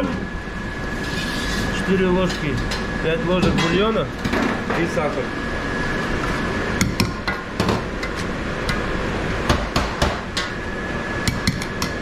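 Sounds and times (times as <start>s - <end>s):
kitchen background rush: 0.0s - 12.0s.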